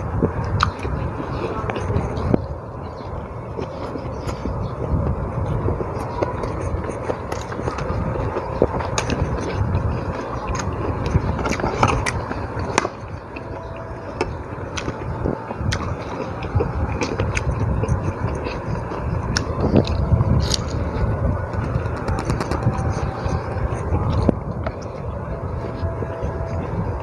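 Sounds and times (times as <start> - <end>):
low background rumble: 0.0 - 27.0.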